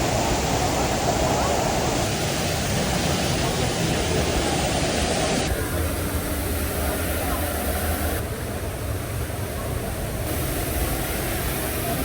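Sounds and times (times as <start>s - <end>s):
waterfall roaring: 0.0s - 8.2s, 10.3s - 12.0s.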